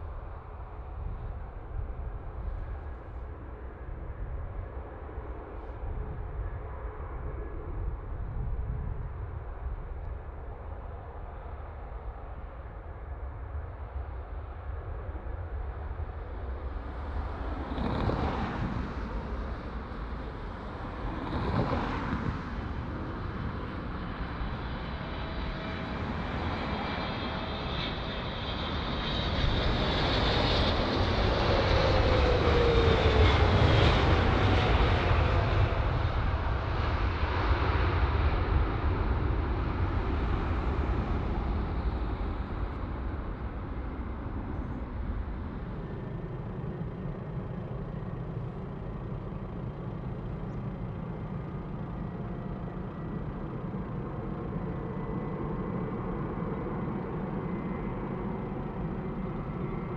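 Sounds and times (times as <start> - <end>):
jet engine whine: 0.0 - 59.9
jet engines rumbling: 0.0 - 59.9.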